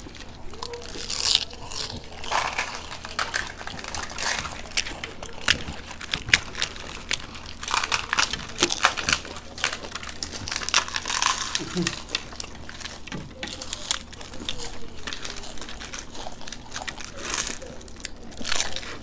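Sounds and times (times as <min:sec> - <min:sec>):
crisp shells cracking and crunching: 0:00.0 - 0:19.0.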